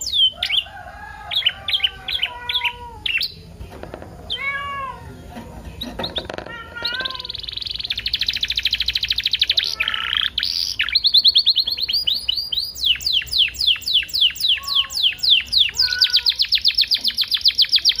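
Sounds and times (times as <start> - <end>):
canary singing trills: 0.0 - 3.6, 4.2 - 18.0.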